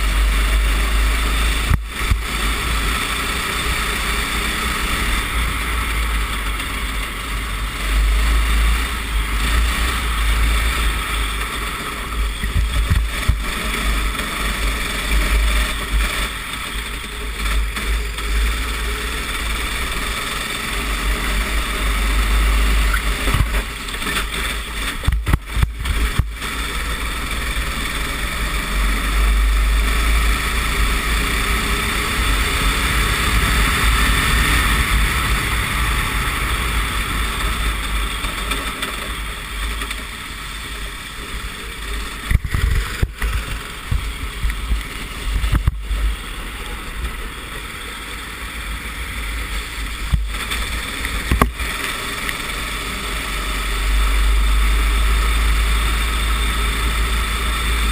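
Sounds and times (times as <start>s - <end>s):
go-kart engine running: 0.0s - 57.9s
heavy low rumble: 0.0s - 57.9s
rushing noise: 0.0s - 57.9s.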